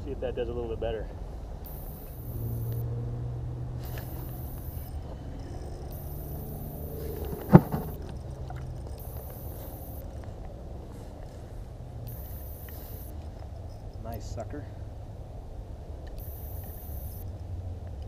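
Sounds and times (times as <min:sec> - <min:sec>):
low steady engine-like hum: 0:00.0 - 0:18.0.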